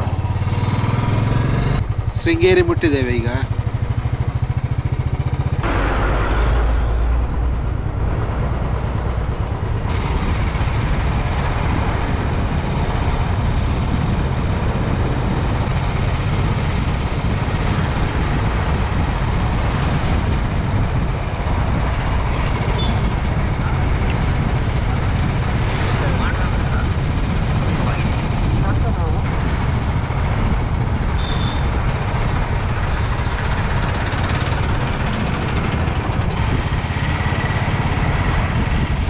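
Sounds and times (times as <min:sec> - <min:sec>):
motorcycle engine running: 0:00.0 - 0:39.0
road noise: 0:00.0 - 0:39.0.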